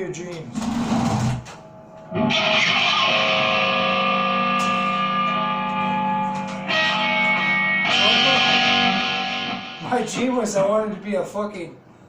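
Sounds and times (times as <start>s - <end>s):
distorted electric guitar chords: 0.6s - 10.6s.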